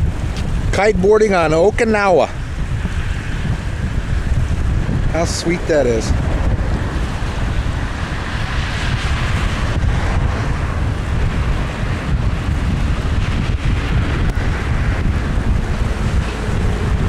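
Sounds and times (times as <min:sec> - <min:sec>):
choppy surf washing: 0:00.0 - 0:17.0
strong wind buffeting microphone: 0:00.0 - 0:17.0.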